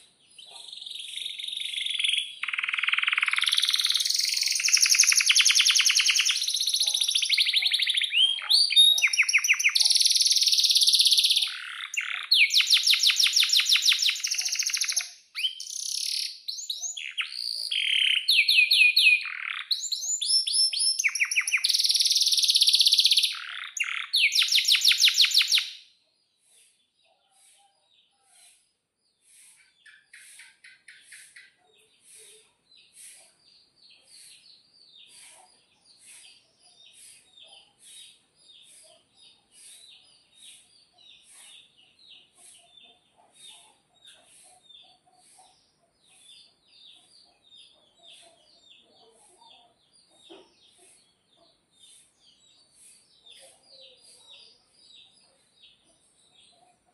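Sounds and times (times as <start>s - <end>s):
canary singing trills: 0.0s - 25.9s, 26.5s - 56.9s
faint bird chirping: 0.0s - 56.9s.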